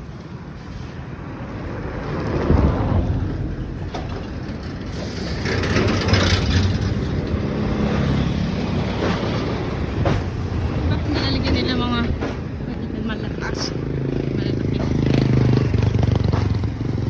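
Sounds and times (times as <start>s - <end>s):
road traffic passing: 0.0s - 17.0s
wind buffeting microphone: 1.0s - 17.0s.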